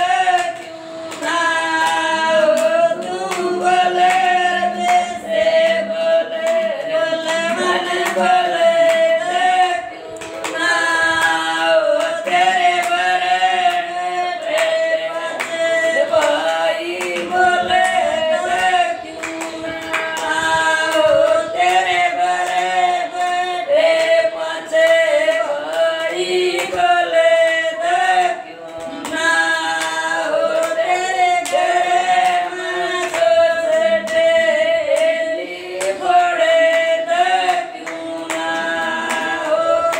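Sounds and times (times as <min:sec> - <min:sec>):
hands clapping in time: 0:00.0 - 0:39.9
women singing folk song: 0:00.0 - 0:39.9.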